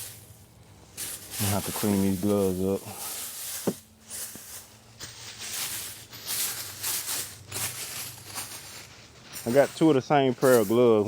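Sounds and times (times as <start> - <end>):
rubber gloves rubbing: 0.0 - 11.0.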